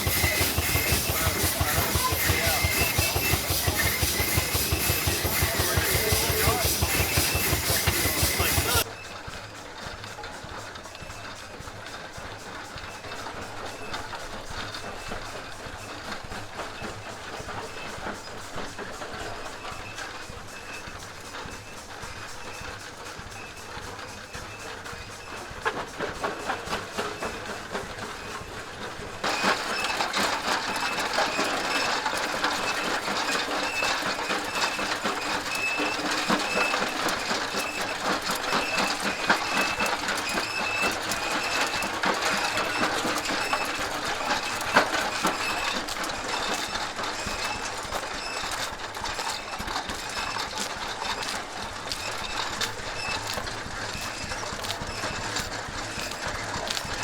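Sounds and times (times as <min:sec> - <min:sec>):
machinery clattering: 0:00.0 - 0:57.0.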